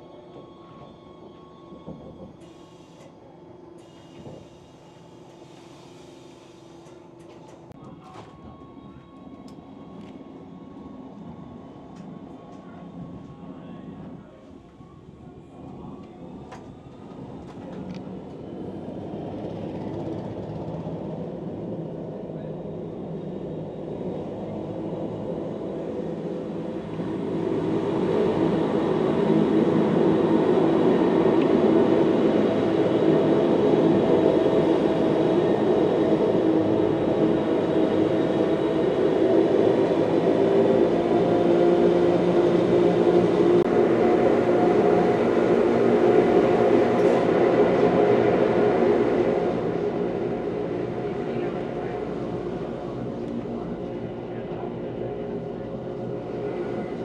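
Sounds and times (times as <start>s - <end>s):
electric train rumble and whine: 0.0s - 57.0s.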